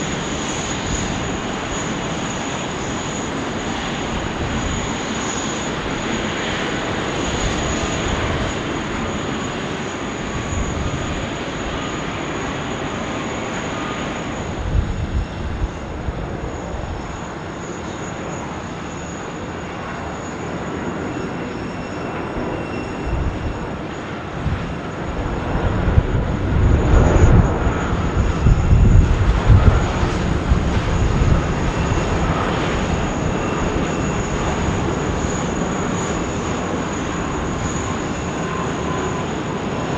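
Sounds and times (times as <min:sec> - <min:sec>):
deep rumble of landing jet: 0:00.0 - 0:39.9
jet engine rush: 0:00.0 - 0:39.9.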